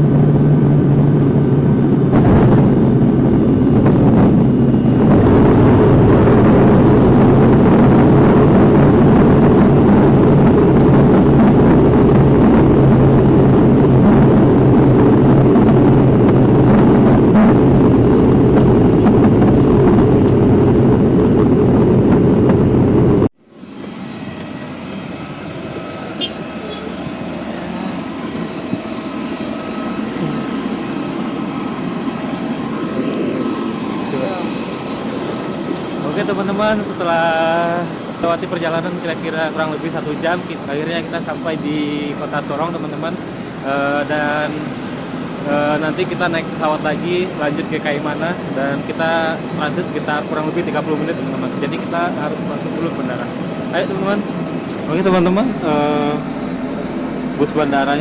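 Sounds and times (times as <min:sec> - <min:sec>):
propeller engines droning in cabin: 0:00.0 - 0:58.0.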